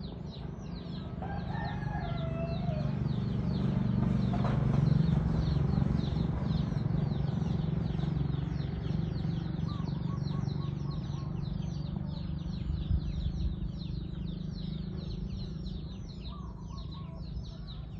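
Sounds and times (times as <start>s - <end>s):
chicks peeping: 0.1s - 17.9s.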